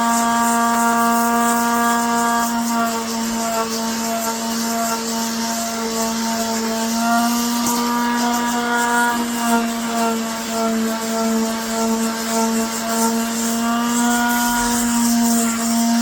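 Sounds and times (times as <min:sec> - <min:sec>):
electric sander humming: 0:00.0 - 0:16.0
sandpaper gritty hiss: 0:00.0 - 0:16.0.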